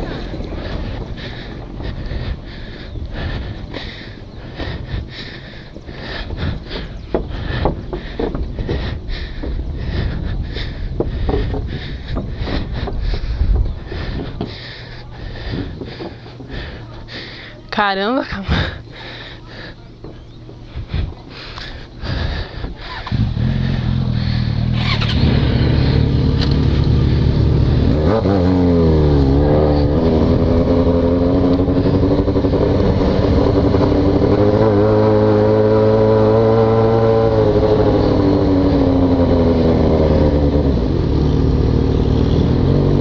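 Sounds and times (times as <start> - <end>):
motorcycle engine revving: 0.0 - 17.4, 18.5 - 43.0.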